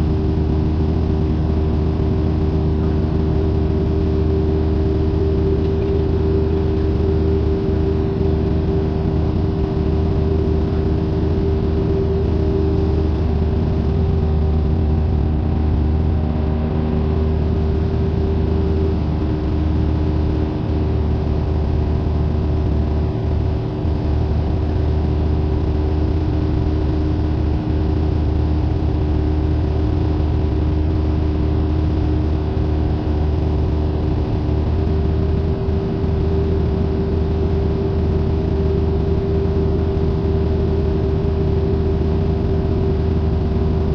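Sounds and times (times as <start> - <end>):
propeller plane engine drone: 0.0 - 43.9.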